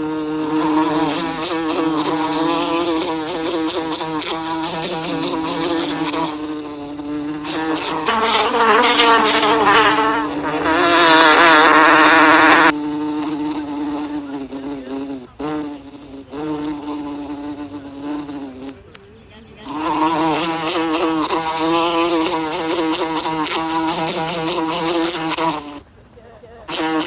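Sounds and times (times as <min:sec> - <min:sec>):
bee buzzing in flight: 0:00.0 - 0:25.9, 0:26.7 - 0:27.0.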